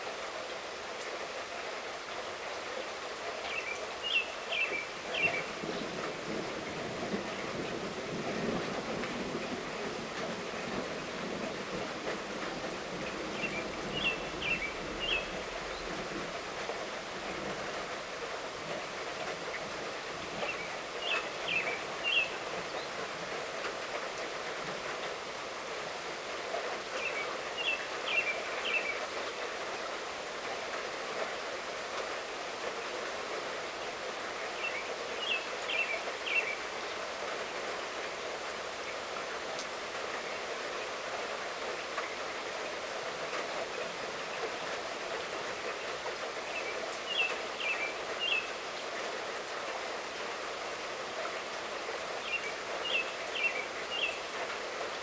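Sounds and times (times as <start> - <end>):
light rainfall: 0.0 - 55.0.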